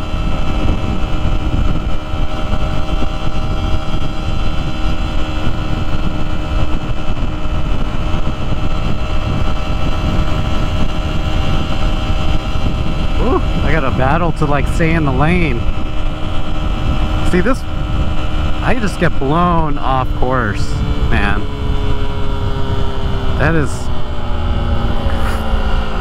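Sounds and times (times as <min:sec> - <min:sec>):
motorcycle engine at high revs: 0:00.0 - 0:26.0
wind over microphone: 0:00.0 - 0:26.0.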